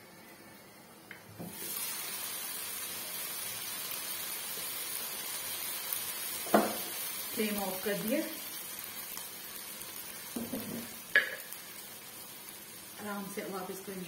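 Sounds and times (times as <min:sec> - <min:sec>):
vegetables sizzling in pan: 0:01.1 - 0:14.0.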